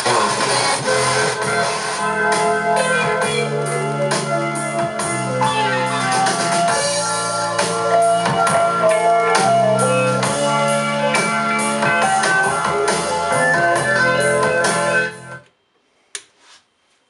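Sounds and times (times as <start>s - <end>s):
music with drums guitar and keyboard: 0.0s - 15.4s.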